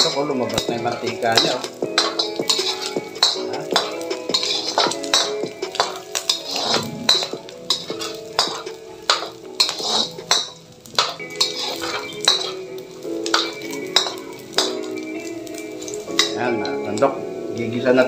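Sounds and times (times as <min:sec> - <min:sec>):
spatula scraping metal wok: 0:00.0 - 0:16.4
background music: 0:00.0 - 0:18.0.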